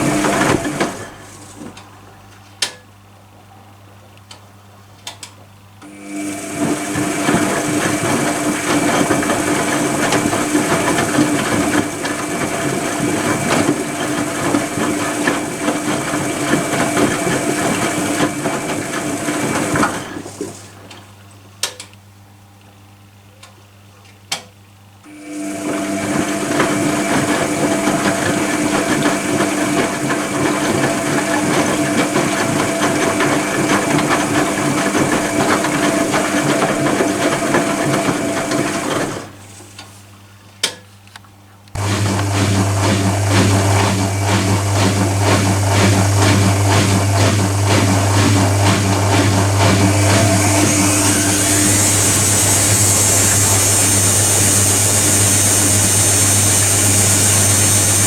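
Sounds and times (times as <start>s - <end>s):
washing machine motor whine: 0.0s - 2.1s, 5.8s - 21.0s, 25.0s - 39.5s, 41.8s - 58.0s.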